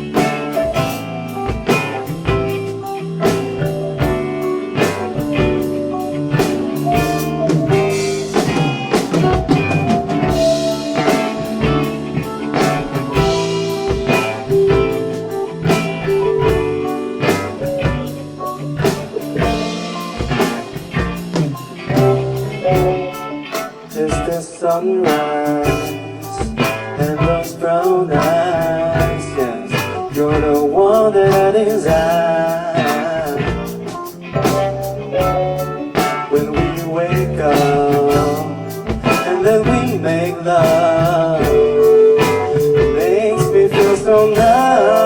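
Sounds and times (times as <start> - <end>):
band playing slow ballad: 0.0 - 45.0.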